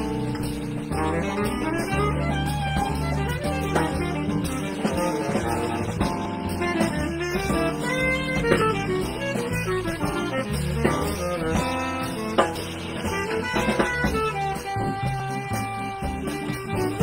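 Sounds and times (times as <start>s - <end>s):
drum kit: 0.0s - 17.0s
walking upright bass: 0.0s - 17.0s.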